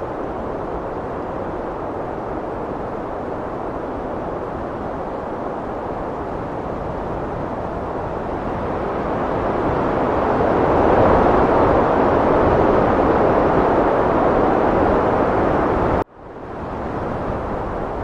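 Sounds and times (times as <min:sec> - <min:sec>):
heavy wind rushing: 0:00.0 - 0:18.0.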